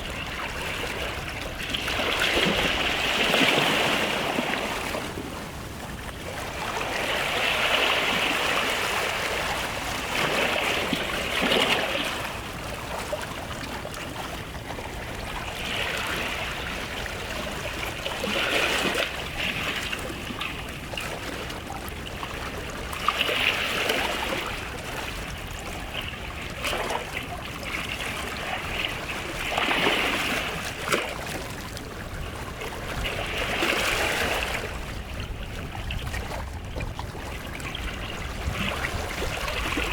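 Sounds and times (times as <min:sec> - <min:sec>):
sea waves washing on a beach: 0:00.0 - 0:39.9.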